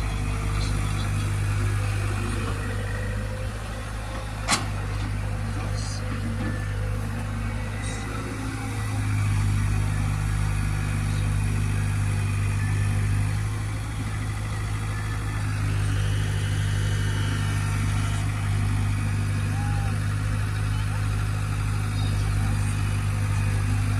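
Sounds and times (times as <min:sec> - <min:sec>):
diesel engine droning: 0:00.0 - 0:23.9.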